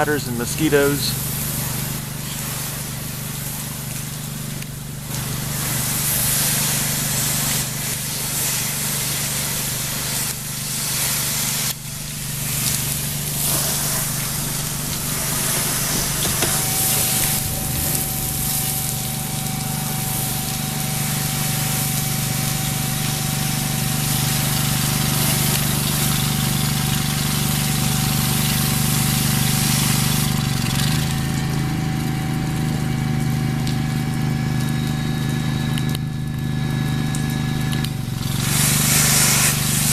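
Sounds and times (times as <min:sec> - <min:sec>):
high-pressure water spray hissing: 0:00.0 - 0:39.9
pressure washer engine droning: 0:00.0 - 0:39.9.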